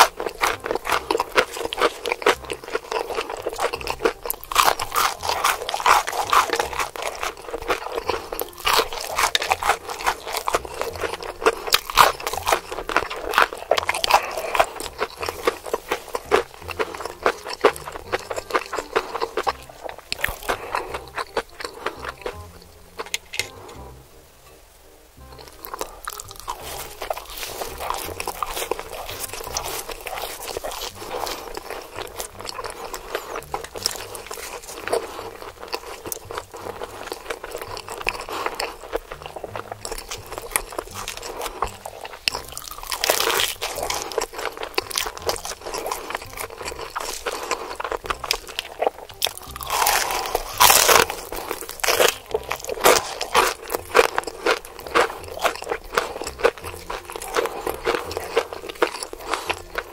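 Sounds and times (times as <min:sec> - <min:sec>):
crunching fried chicken: 0:00.0 - 0:24.0, 0:25.2 - 0:59.9.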